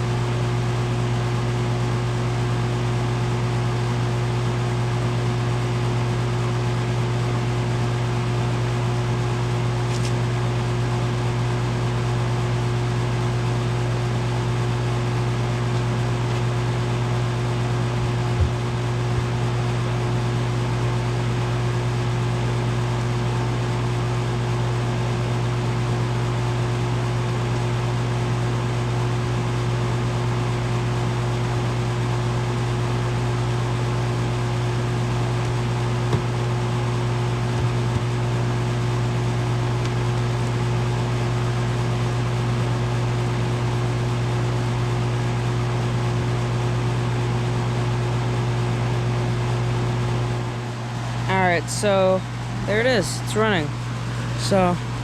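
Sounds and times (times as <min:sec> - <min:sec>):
air conditioner unit humming: 0:00.0 - 0:55.0.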